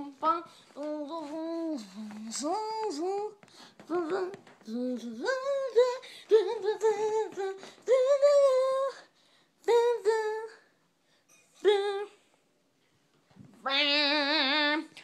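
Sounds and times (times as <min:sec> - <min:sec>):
high young voice singing: 0:00.0 - 0:10.7, 0:11.6 - 0:12.2, 0:13.6 - 0:15.0.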